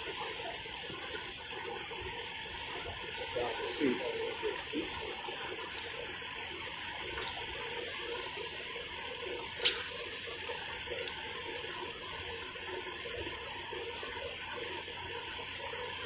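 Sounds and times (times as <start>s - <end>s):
running water trickling: 0.0s - 16.0s.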